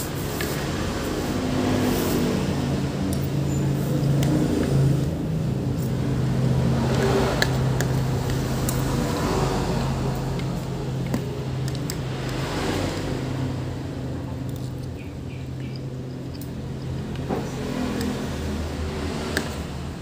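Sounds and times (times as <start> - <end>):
traffic engine hum: 0.0 - 20.0.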